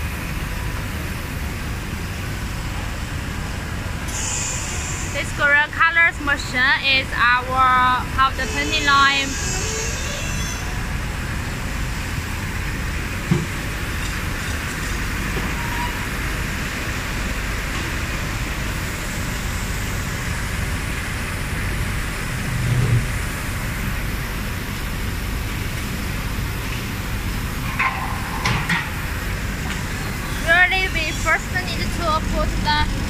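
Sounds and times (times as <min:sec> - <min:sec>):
factory machinery drone: 0:00.0 - 0:33.0.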